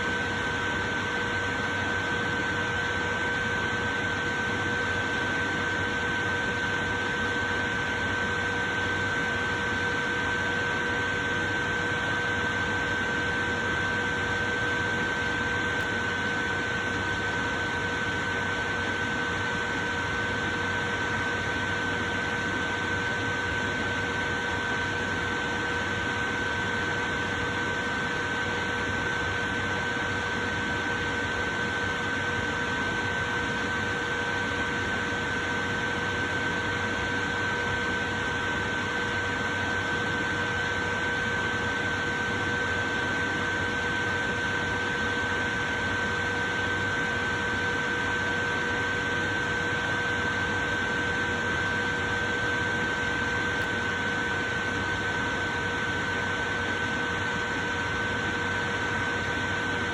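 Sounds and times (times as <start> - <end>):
electric fan running: 0.0 - 59.9.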